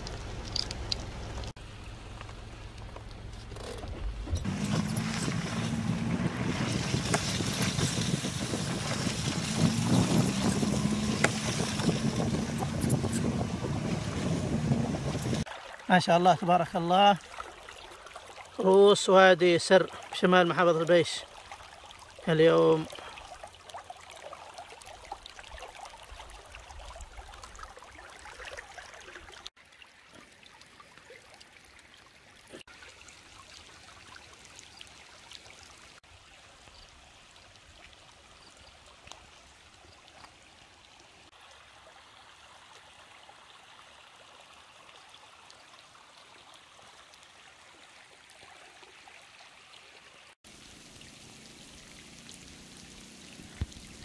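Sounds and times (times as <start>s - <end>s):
rushing runoff water: 0.0s - 54.0s.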